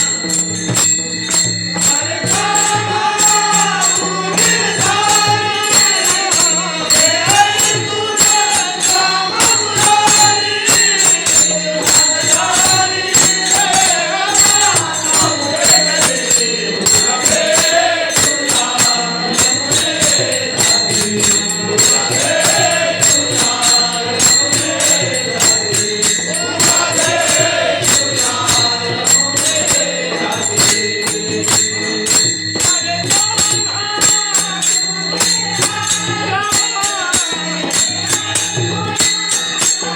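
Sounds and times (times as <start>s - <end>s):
rapid percussion strokes: 0.0s - 39.9s
sustained accompaniment: 0.0s - 39.9s.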